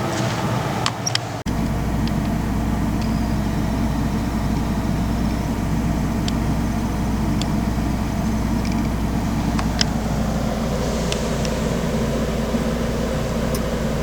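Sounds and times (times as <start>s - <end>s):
constant noisy rush: 0.0s - 14.0s
low machine hum: 0.0s - 14.0s.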